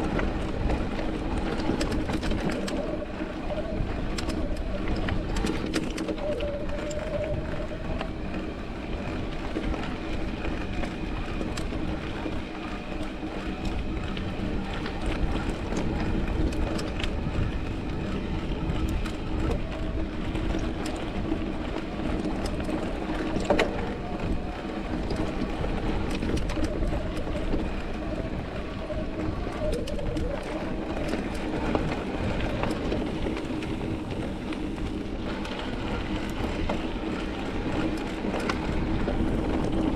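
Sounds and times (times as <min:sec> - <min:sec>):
bike rolling on rocky trail: 0:00.0 - 0:39.9.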